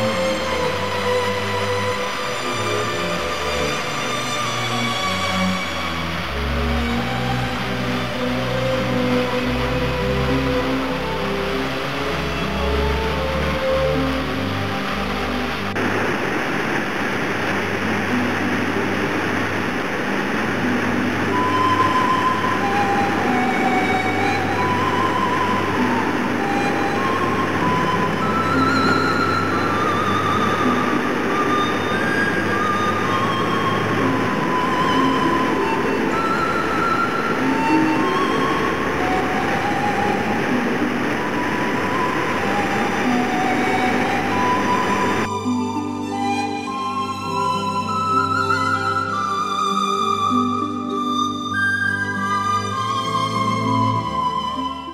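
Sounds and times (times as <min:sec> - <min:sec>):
soft background music: 0:00.0 - 0:15.8, 0:17.5 - 0:54.9
waterfall rushing: 0:00.0 - 0:54.9.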